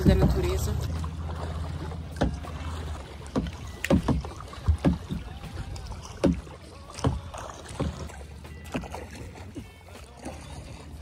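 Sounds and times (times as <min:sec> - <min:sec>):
paddle knocking on hull: 0:00.0 - 0:11.0
water splashing around kayak: 0:00.0 - 0:11.0.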